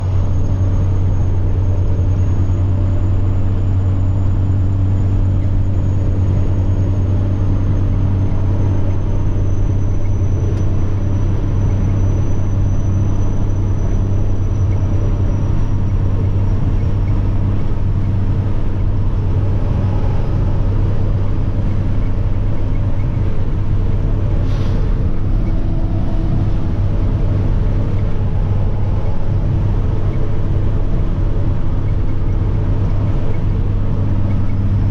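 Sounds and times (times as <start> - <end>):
diesel truck engine droning: 0.0 - 34.9
turbocharger whine: 0.0 - 34.9.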